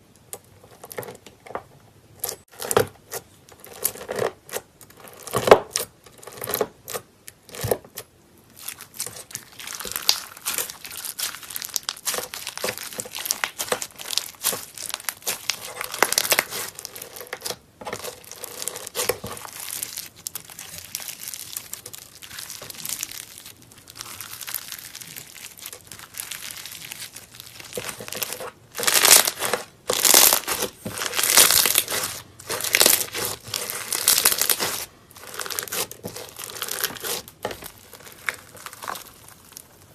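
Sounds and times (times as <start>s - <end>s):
slime crackling and popping: 2.2s - 39.9s.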